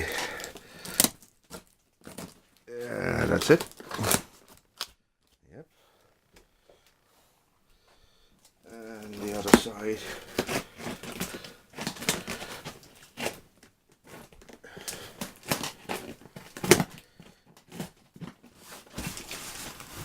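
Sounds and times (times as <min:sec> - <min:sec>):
packaging scraping and tearing: 0:00.0 - 0:05.0, 0:08.7 - 0:20.0.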